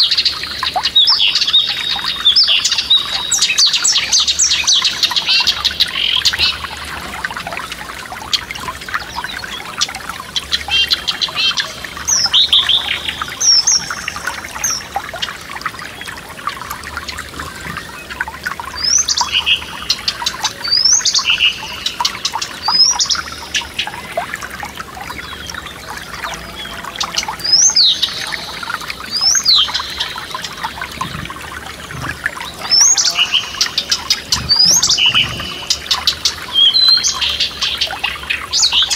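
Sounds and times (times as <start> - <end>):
songbirds singing: 0.0 - 38.9
stream trickling and splashing: 0.0 - 38.9.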